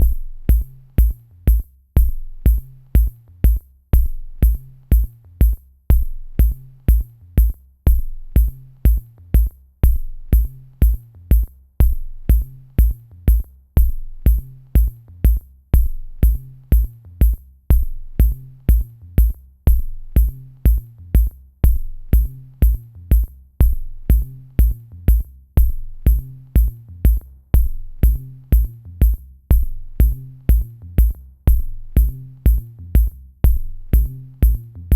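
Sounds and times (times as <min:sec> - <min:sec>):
electronic drum machine beat: 0:00.0 - 0:34.9.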